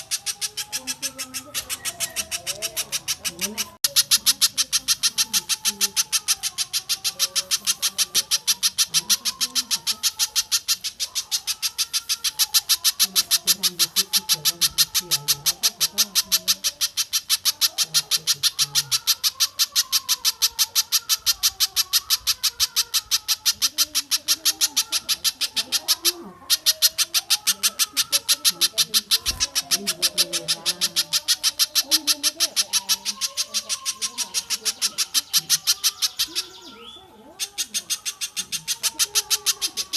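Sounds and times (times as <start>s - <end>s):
bird calling in rapid roll: 0.0s - 39.9s
fainter lower bird calls: 0.0s - 39.9s.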